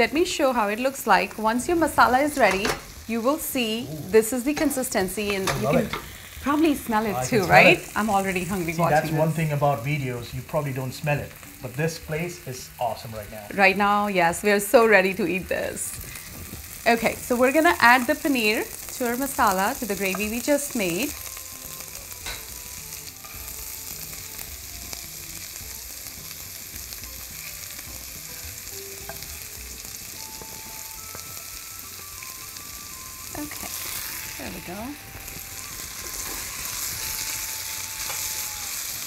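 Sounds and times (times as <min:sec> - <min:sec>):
masala sizzling in frying pan: 0:00.0 - 0:39.0.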